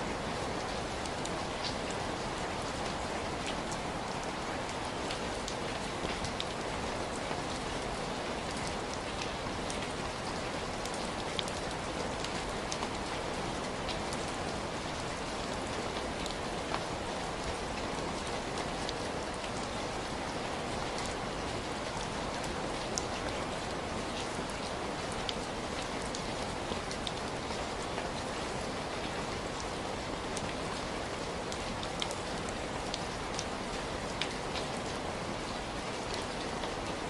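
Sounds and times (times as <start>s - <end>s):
heavy rain falling: 0.0s - 37.0s
raindrops striking close by: 0.0s - 37.0s.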